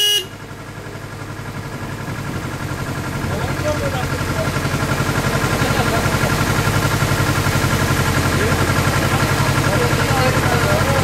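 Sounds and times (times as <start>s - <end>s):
boat engine low pulsing drone: 0.0s - 11.0s.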